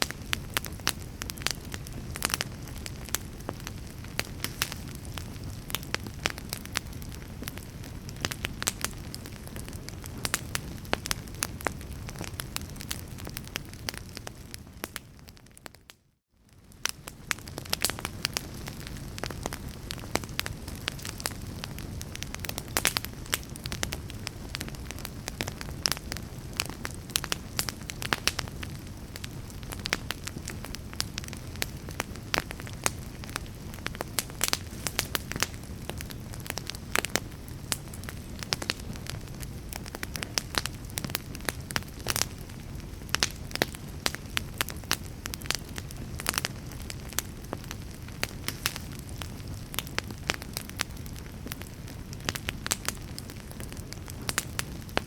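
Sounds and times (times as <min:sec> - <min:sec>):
fire crackling: 0:00.0 - 0:55.0.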